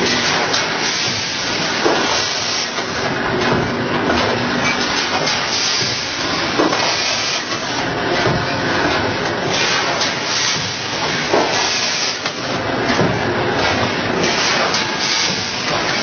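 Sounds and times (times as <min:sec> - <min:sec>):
packing machine hissing: 0:00.0 - 0:03.4, 0:04.8 - 0:16.0
machine mechanism knocks: 0:00.0 - 0:16.0.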